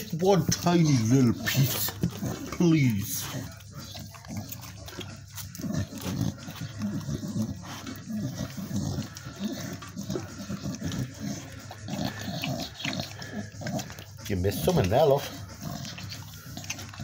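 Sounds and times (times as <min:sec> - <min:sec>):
dog chewing and licking: 0:00.0 - 0:17.0.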